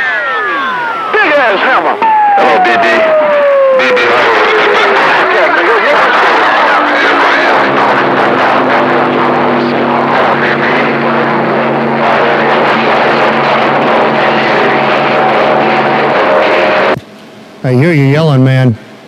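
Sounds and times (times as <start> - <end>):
distant radio voices: 0.0 - 17.0
radio static: 0.0 - 17.0.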